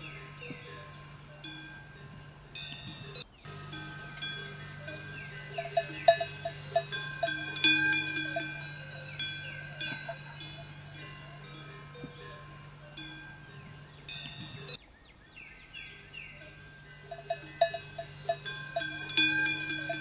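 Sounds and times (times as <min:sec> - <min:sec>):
metal bells clanking: 0:00.0 - 0:14.8, 0:15.8 - 0:20.0
steady low hum: 0:00.0 - 0:14.8, 0:15.6 - 0:20.0.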